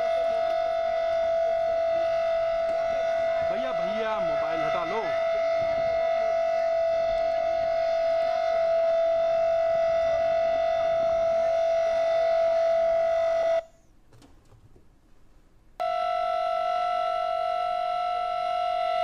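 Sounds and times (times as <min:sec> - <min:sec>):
air raid siren steady tone: 0:00.0 - 0:13.9, 0:15.8 - 0:19.0.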